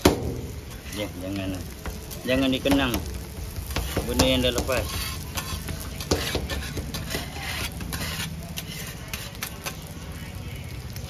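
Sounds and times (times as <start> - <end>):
egg sizzling on griddle: 0.0 - 11.0.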